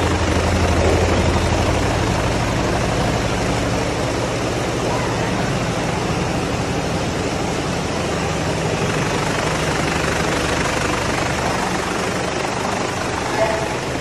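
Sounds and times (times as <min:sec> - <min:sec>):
churning water: 0:00.0 - 0:14.0
low motor hum: 0:00.0 - 0:14.0.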